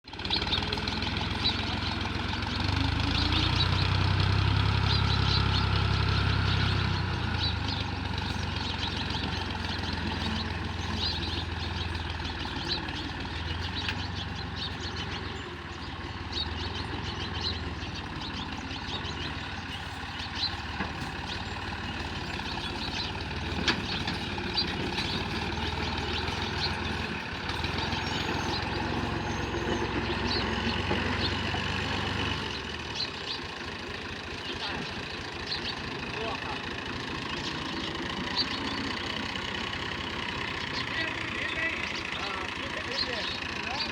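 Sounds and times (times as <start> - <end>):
tractor engine running: 0.0 - 43.9
birds chirping: 0.1 - 43.9.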